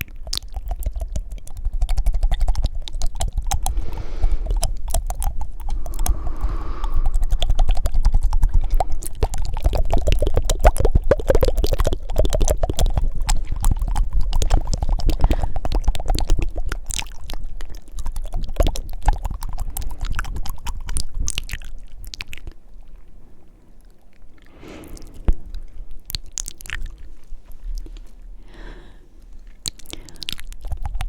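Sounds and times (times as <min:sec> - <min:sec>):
tongue flutters and clicks: 0:00.0 - 0:23.1, 0:23.8 - 0:28.3, 0:29.2 - 0:31.0
wet mouth sounds: 0:00.0 - 0:31.0.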